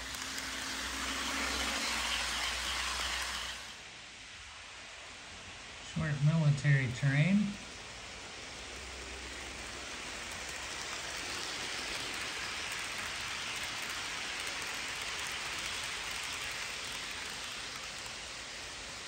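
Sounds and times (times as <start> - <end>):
model train wheels hissing on rails: 0.0 - 19.0.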